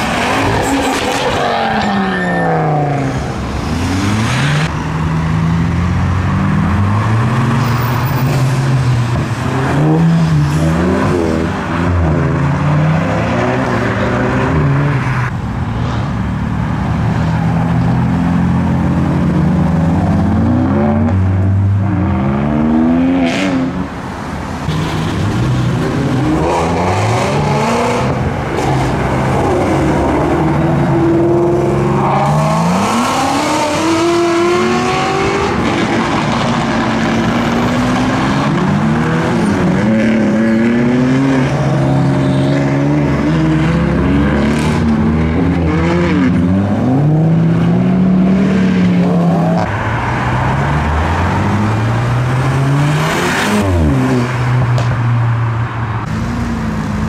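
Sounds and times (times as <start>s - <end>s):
car engines revving and accelerating: 0.0s - 57.0s.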